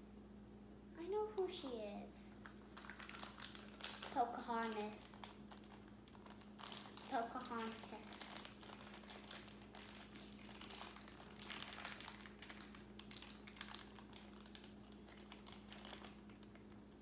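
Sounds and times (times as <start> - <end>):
faint steady hum: 0.0 - 17.0
plastic packaging crinkling: 2.3 - 17.0.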